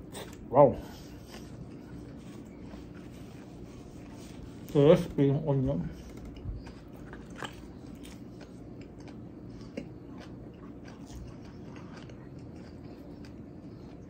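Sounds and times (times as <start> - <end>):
person chewing with crunches: 0.0 - 14.0.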